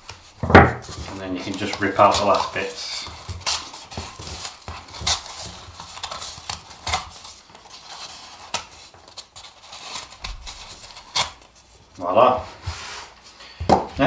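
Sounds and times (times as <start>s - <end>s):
stiff paper crackling and snapping: 0.0s - 12.0s.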